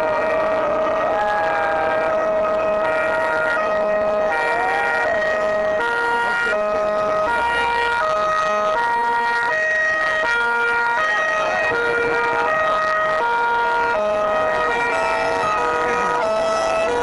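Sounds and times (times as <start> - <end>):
two-tone sirens: 0.0 - 17.0.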